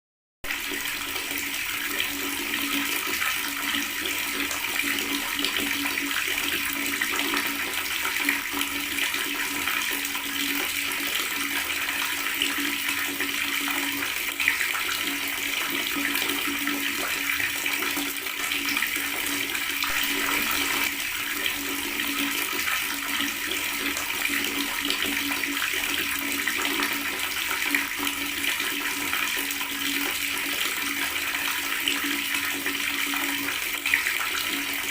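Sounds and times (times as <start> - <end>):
water running from tap: 0.4 - 34.9.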